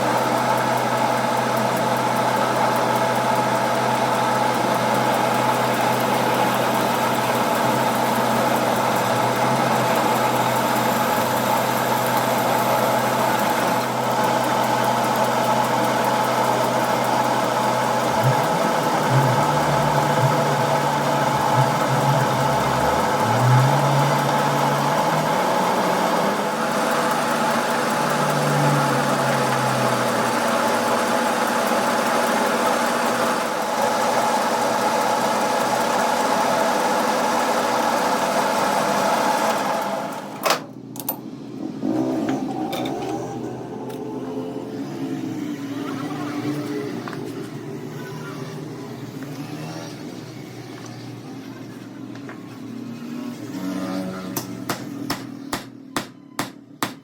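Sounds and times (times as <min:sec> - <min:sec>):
machine motor humming: 0:02.8 - 0:36.2, 0:41.4 - 0:55.6.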